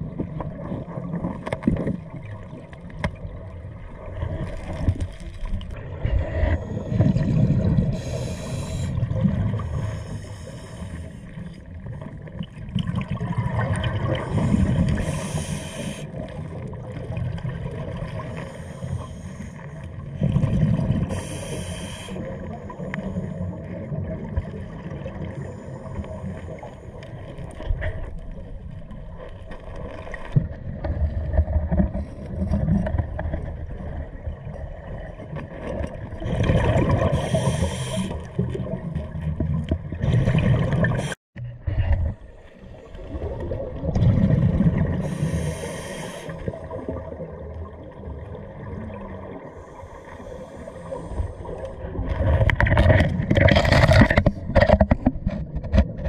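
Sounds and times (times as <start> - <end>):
rush of exhaled bubbles: 0.0 - 10.2, 11.8 - 18.5, 20.0 - 42.2, 42.8 - 55.0.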